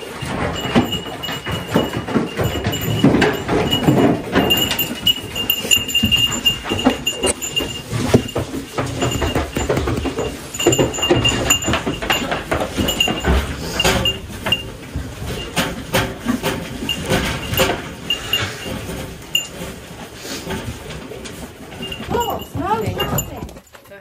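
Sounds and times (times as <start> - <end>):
goats eating from plastic bowls: 0.0 - 24.0.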